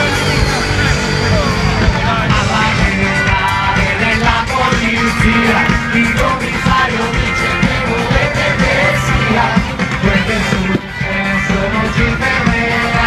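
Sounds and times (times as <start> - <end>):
live pop-rock band: 0.0 - 13.0
person singing: 0.0 - 13.0.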